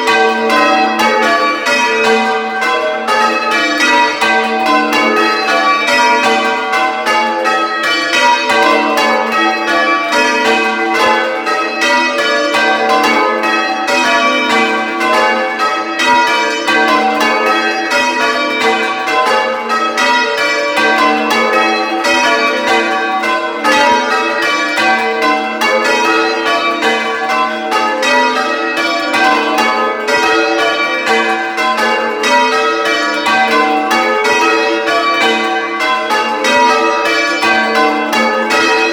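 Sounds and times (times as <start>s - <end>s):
church bells ringing in turn: 0.0s - 38.9s.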